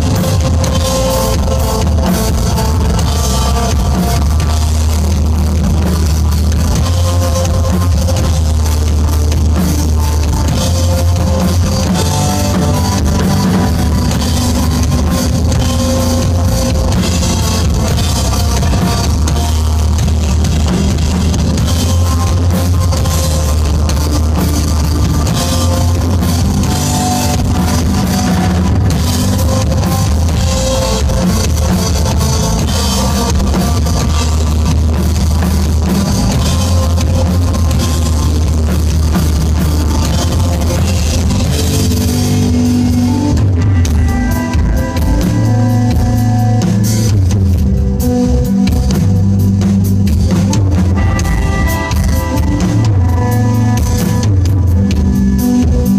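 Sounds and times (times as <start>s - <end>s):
bass guitar: 0.0s - 55.9s
drum kit: 0.0s - 55.9s
electric guitar: 0.0s - 55.9s.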